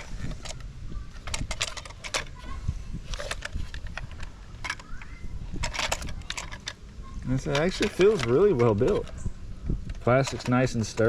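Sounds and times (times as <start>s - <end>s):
plastic toy train clicks: 0.0s - 2.4s, 3.1s - 6.8s, 7.4s - 9.1s, 9.8s - 11.0s.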